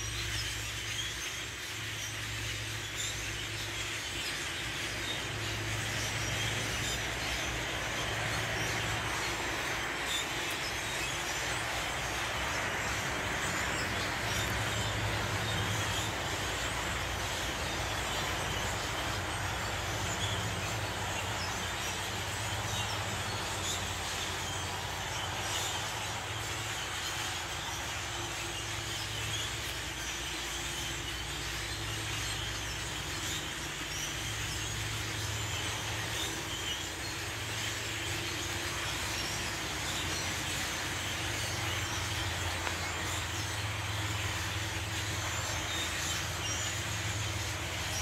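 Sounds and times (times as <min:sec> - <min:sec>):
flock of birds chattering: 0:00.0 - 0:48.0.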